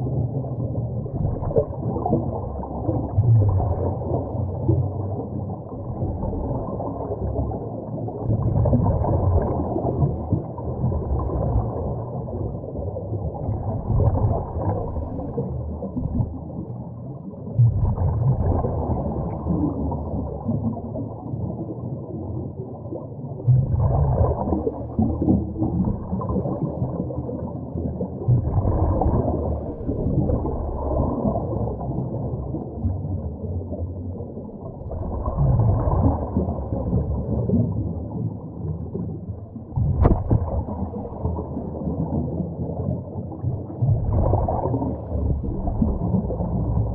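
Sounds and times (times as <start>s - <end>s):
underwater regulator bubbles gurgling: 0.0s - 46.9s.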